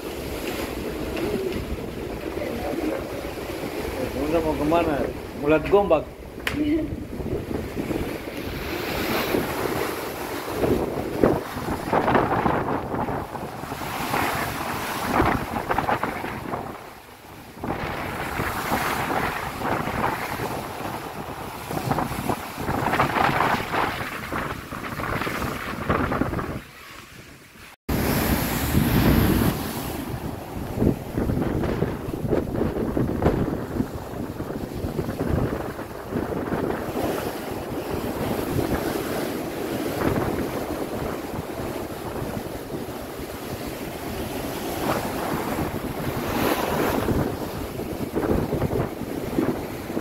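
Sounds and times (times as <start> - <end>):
sea waves washing: 0.0 - 50.0
wind buffeting microphone: 0.0 - 50.0.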